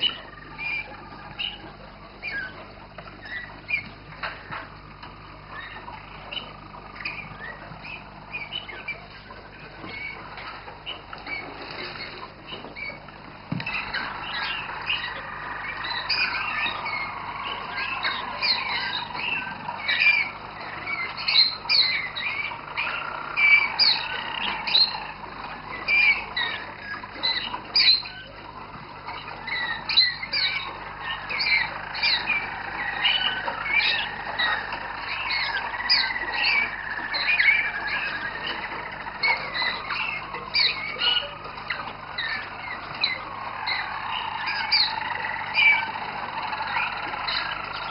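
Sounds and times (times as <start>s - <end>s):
canary singing with trills: 0.0s - 47.9s.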